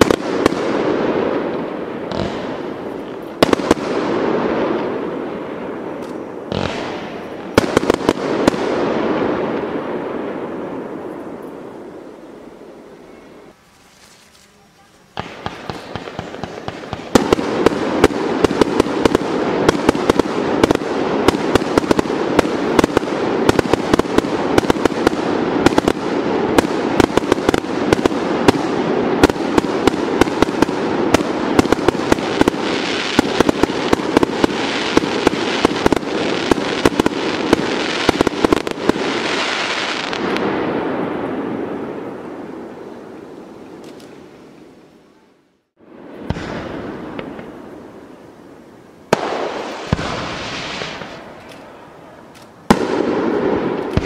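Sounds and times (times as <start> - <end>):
firework bangs: 0.0 - 44.8, 45.7 - 48.2, 49.1 - 54.0
fireworks crackling: 0.0 - 54.0.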